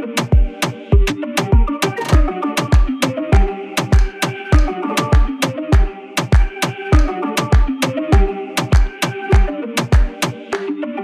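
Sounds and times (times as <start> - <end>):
deep kick drums: 0.2 - 10.1.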